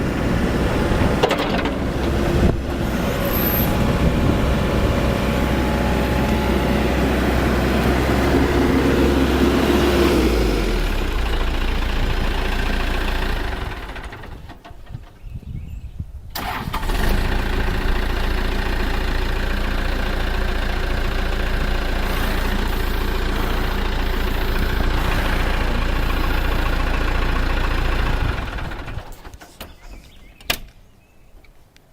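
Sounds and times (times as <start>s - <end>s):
diesel engine running: 0.0s - 15.0s, 16.4s - 29.4s.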